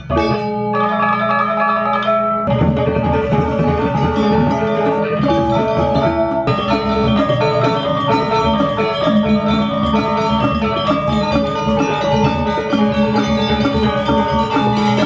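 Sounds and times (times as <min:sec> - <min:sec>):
bright pitched notes: 0:00.0 - 0:15.0
percussion beat: 0:00.0 - 0:15.0.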